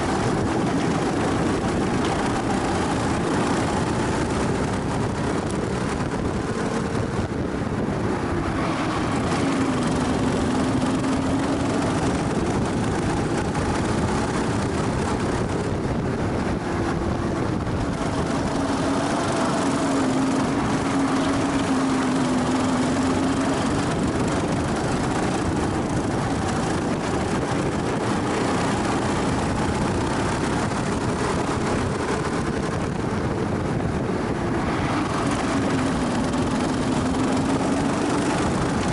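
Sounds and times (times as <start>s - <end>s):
go-kart engine revving: 0.0s - 38.9s
steady rushing noise: 0.0s - 38.9s.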